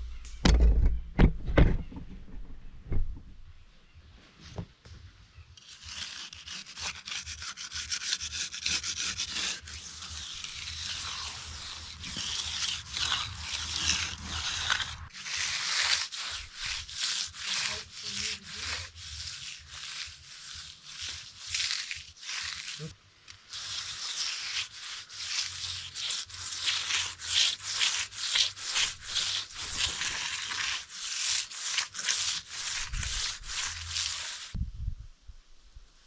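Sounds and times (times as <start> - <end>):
tool scraping concrete: 5.6 - 34.6.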